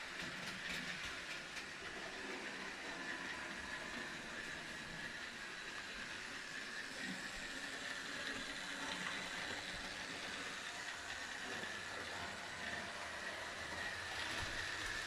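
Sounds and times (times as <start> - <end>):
model train motor whine: 0.0 - 15.0
model train wheels rumbling: 0.0 - 15.0.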